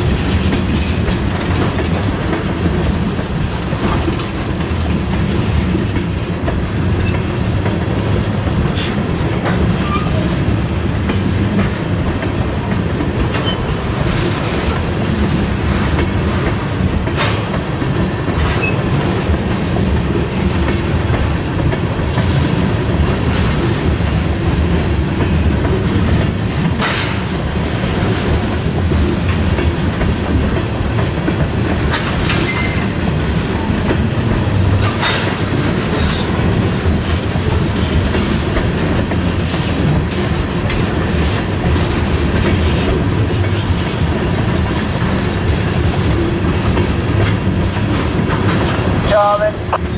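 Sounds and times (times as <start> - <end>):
wheels clicking over rail joints: 0.0 - 49.2
freight cars rumbling on track: 0.0 - 49.9.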